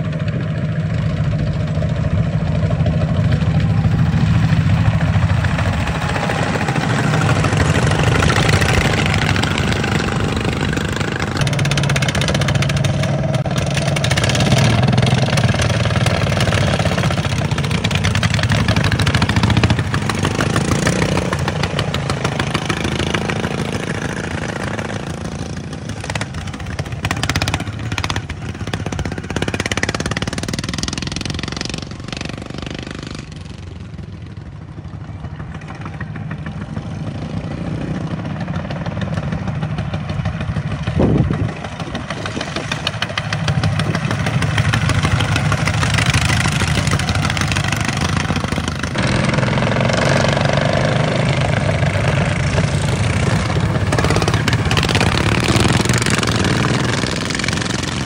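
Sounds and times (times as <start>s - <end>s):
lawn mower engines revving: 0.0s - 58.0s.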